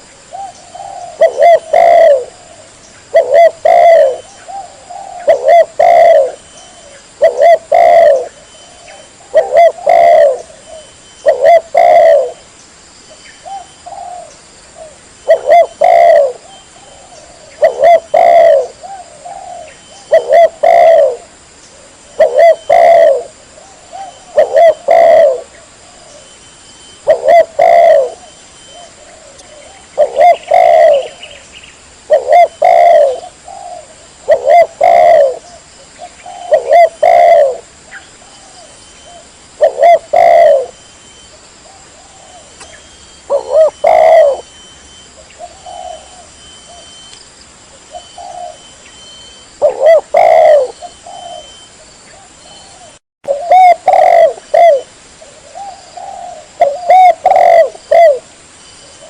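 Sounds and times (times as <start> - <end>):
dove cooing: 0.0 - 12.4, 13.4 - 26.4, 27.0 - 31.4, 32.0 - 47.1, 47.8 - 59.0.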